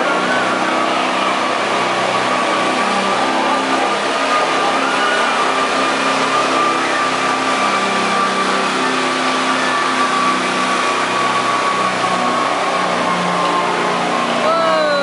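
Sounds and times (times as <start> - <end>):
high steady whine: 0.0 - 15.0
lawn mower engine running hard: 0.0 - 15.0.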